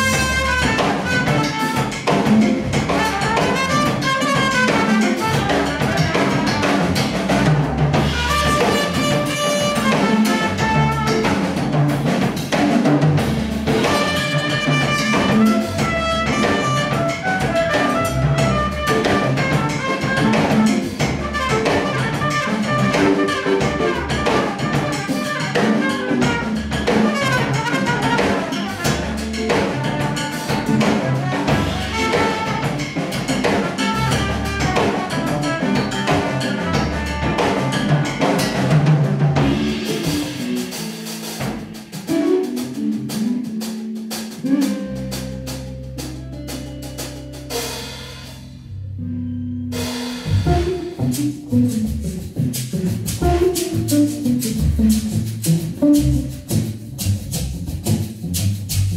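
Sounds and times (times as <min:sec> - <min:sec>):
guitar: 0:00.0 - 0:57.1
drum kit: 0:00.0 - 0:58.9.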